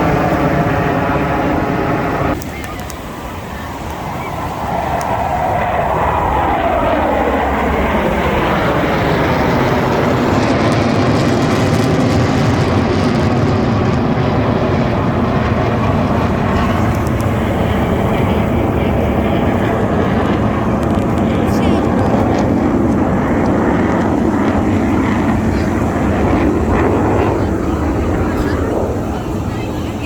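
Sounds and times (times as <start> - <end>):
jet engines roaring past: 0.0 - 30.0.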